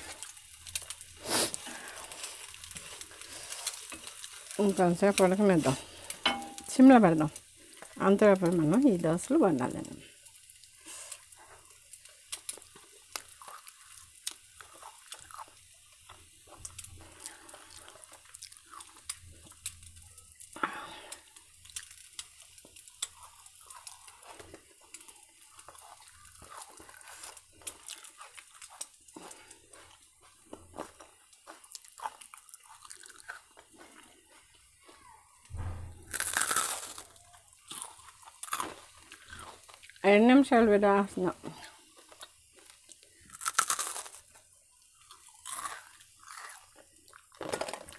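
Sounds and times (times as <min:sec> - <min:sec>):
chewing and crunching food: 0:00.0 - 0:47.9.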